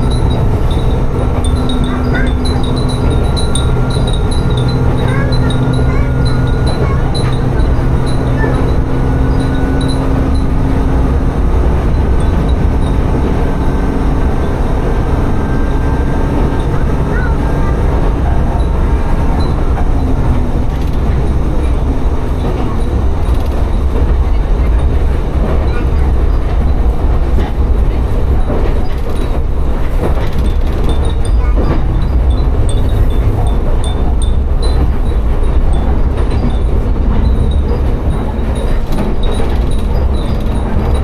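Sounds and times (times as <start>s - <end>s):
diesel railcar rumbling: 0.0s - 41.0s.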